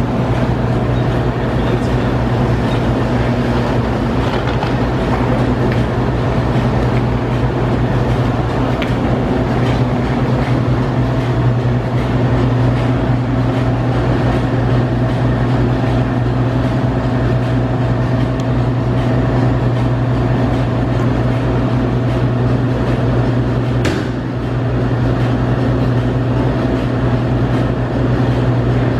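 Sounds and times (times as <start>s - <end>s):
diesel locomotive engine droning: 0.0s - 28.9s.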